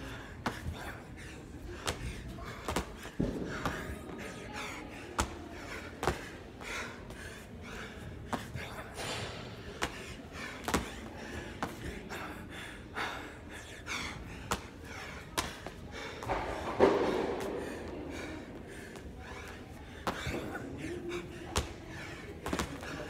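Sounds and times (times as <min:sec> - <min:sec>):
hard gasping breathing: 0:00.0 - 0:23.0.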